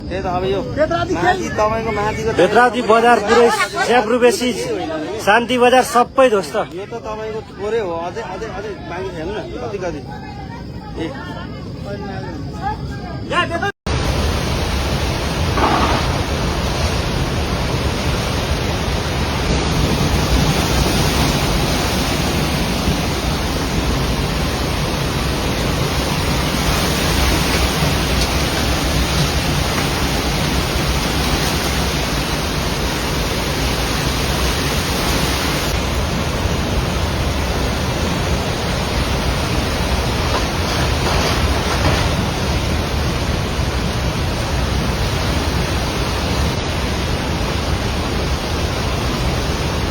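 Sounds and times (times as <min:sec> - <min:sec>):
rushing floodwater: 0:00.4 - 0:11.0, 0:13.9 - 0:49.9.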